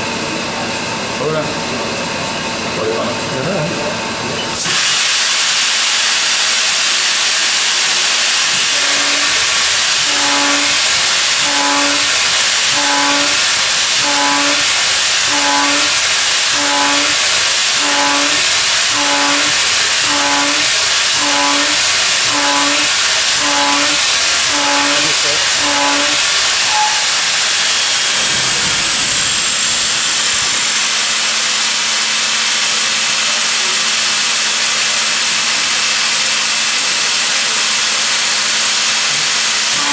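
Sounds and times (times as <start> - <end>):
milling machine hiss: 0.0 - 39.9.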